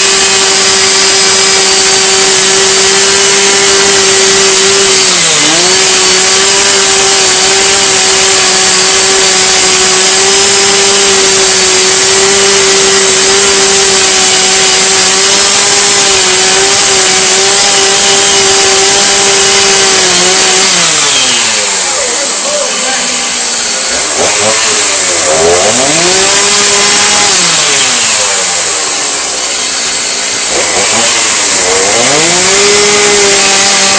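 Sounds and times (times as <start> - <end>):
power tool motor running: 0.0 - 33.9.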